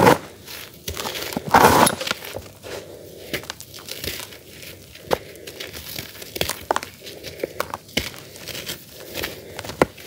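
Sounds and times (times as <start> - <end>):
charcoal crunching and crackling: 0.0 - 10.0.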